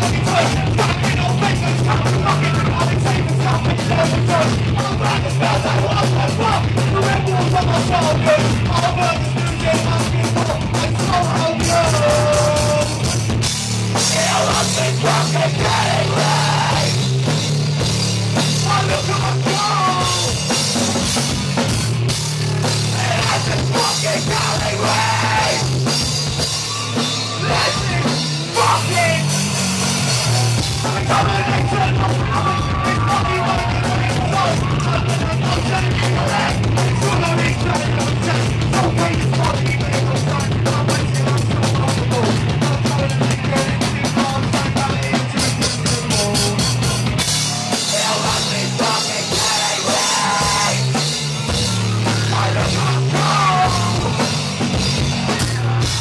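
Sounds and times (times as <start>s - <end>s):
person singing: 0.0s - 13.1s, 14.0s - 17.1s, 18.6s - 20.5s, 22.8s - 25.9s, 27.3s - 29.4s, 30.3s - 54.4s
distorted guitar: 0.0s - 56.0s
live rock band playing: 0.0s - 56.0s
pounding drums: 0.0s - 56.0s.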